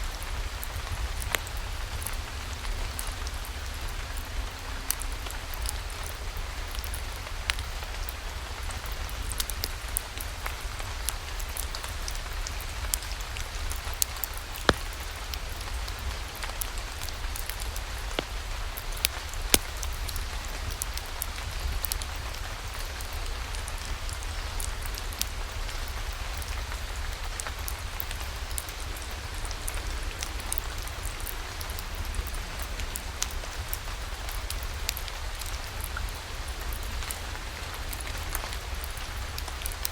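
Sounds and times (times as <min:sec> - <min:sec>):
steady rain falling: 0:00.0 - 0:39.9
sharp raindrop clicks: 0:00.2 - 0:39.9.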